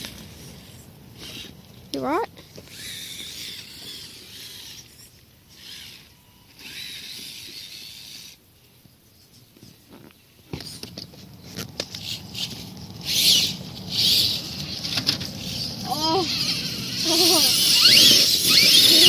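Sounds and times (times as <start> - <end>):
electric motor and gear whine: 0.0 - 8.4, 10.6 - 19.0.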